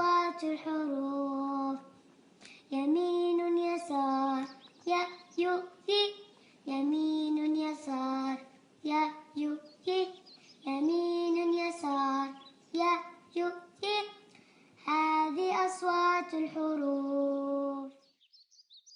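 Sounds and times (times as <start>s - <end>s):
child singing a chant: 0.0s - 18.0s.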